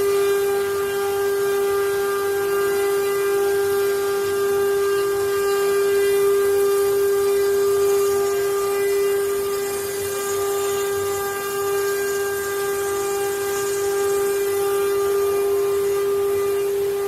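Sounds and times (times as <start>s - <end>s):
spindle motor whine: 0.0s - 17.0s.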